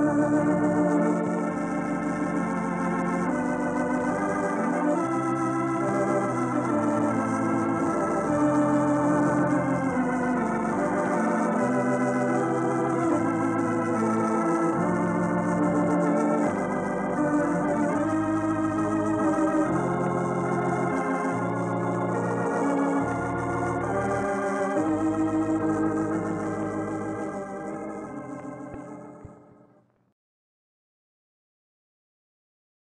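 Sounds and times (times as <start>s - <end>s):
organ music wavering chords: 0.0s - 29.8s.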